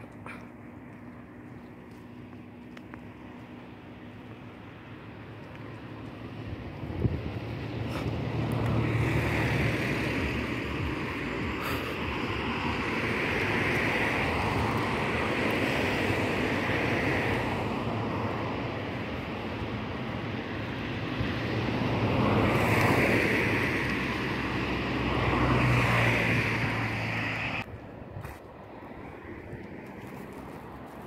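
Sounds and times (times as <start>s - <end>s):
low engine hum: 0.0s - 31.0s
wind and road noise: 0.0s - 31.0s.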